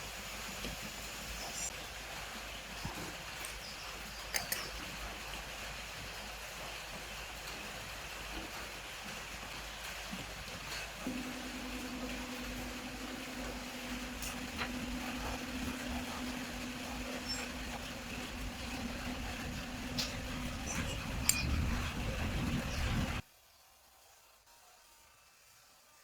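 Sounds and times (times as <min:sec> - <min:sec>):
low mechanical hum: 0:00.0 - 0:23.2.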